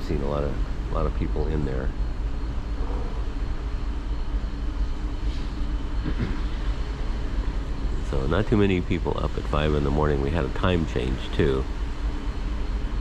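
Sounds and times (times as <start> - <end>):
ship machinery rumble: 0.0 - 13.0
ventilation hum: 0.0 - 13.0.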